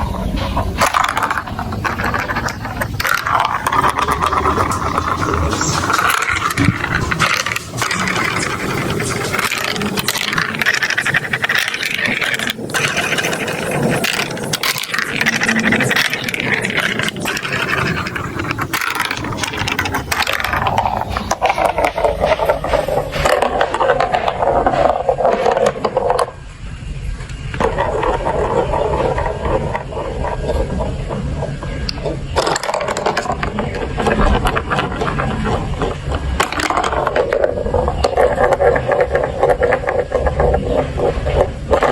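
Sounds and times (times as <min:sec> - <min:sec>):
marbles rolling down plastic track: 0:00.0 - 0:26.5, 0:27.2 - 0:41.9.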